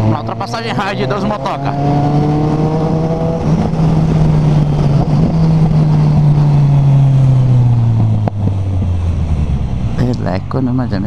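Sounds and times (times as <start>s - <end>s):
motorcycle engine running: 0.0s - 11.0s
wind noise on microphone: 1.0s - 10.0s.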